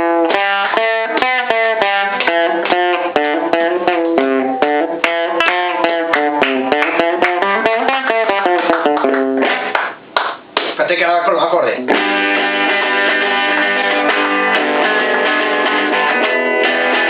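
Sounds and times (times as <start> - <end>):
guitar picked notes: 0.0 - 10.0, 11.8 - 17.0.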